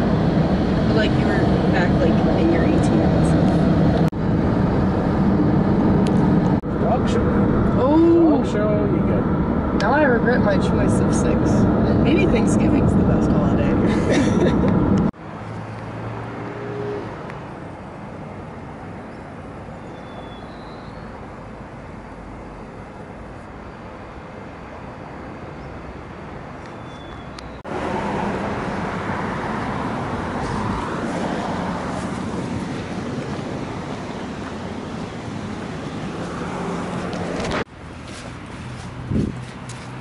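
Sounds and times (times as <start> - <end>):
steady outdoor rushing noise: 0.0 - 40.0.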